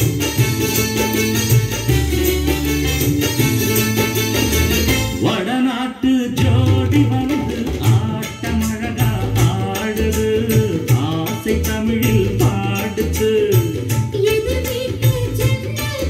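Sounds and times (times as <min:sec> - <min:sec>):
song with singer and instruments: 0:00.0 - 0:16.0.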